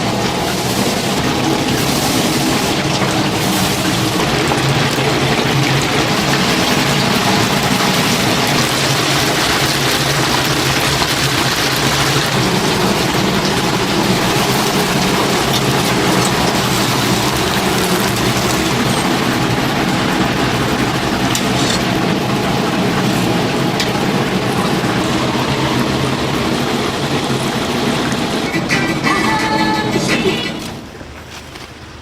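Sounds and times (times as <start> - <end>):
chicken deep-frying in oil: 0.0 - 32.0.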